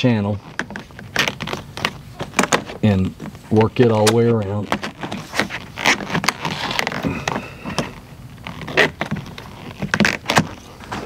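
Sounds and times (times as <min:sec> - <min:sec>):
plastic scraping on rubber trim: 0:00.0 - 0:11.0.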